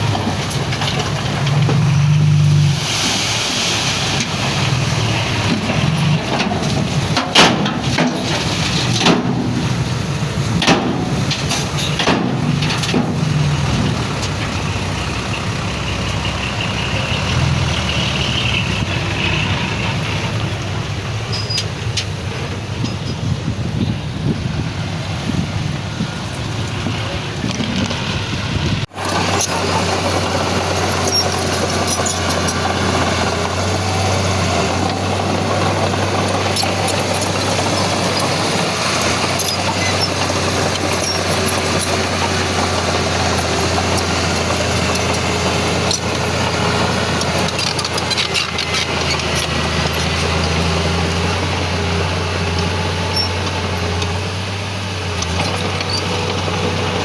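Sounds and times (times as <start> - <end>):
diesel engines of earthmoving machinery: 0.0 - 57.0.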